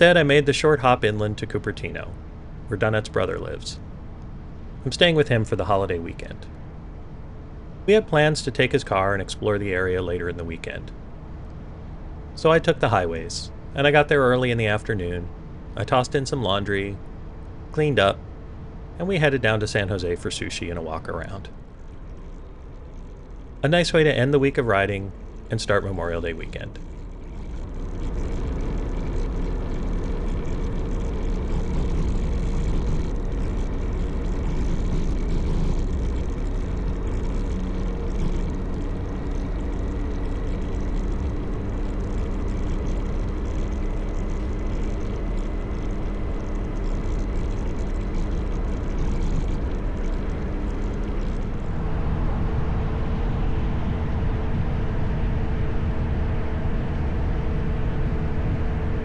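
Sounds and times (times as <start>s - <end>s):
motorcycle engine hum: 0.0s - 59.0s
wind and road noise: 0.0s - 59.0s.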